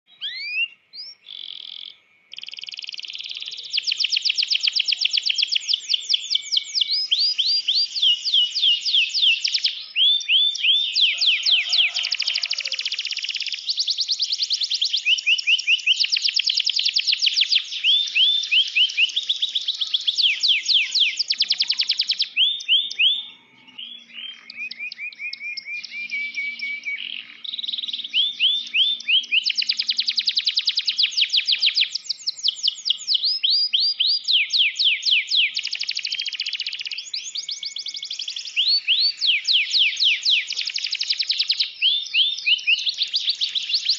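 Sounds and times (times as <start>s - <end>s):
canary singing trills: 0.1s - 43.9s.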